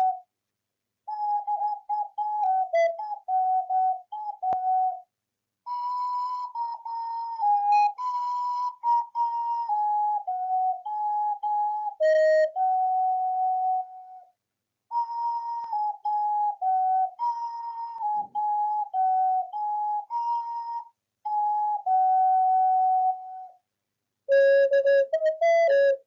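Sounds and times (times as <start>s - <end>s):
ocarina melody: 0.0s - 0.2s, 1.1s - 5.0s, 5.7s - 14.3s, 14.9s - 23.6s, 24.3s - 26.0s.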